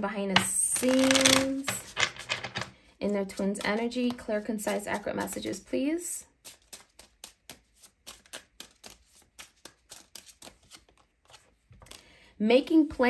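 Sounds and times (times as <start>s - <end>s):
cards being shuffled: 0.4s - 5.7s, 6.4s - 12.0s.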